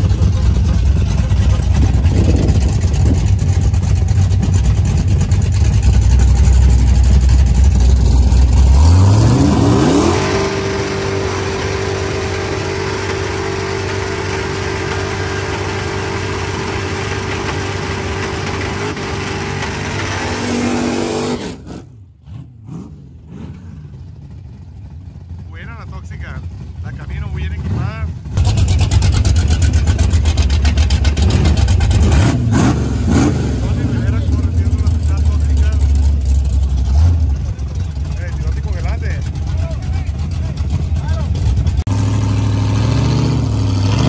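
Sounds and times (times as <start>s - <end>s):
drag racing car engine revving: 0.0s - 44.0s.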